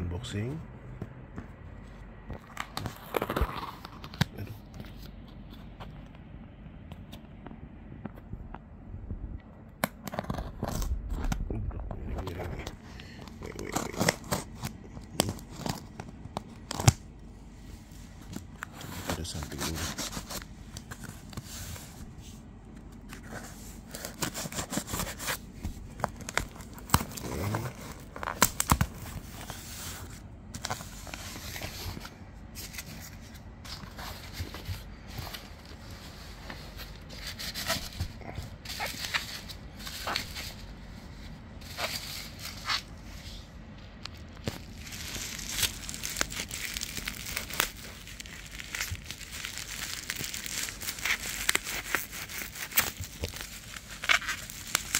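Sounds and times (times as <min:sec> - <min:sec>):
bubble wrap rustling and crinkling: 0:02.4 - 0:05.1, 0:12.1 - 0:17.0, 0:17.6 - 0:22.4, 0:23.0 - 0:54.9.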